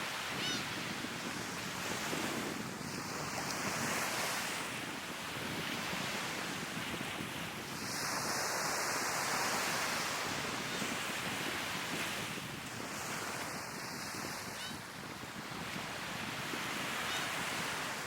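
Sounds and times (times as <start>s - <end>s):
sea waves breaking on shore: 0.0s - 18.0s
wind on the microphone: 0.0s - 18.0s.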